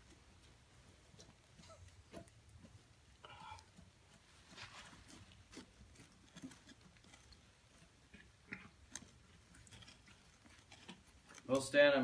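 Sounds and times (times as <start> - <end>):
faint clicks and ticks: 0.0 - 12.0.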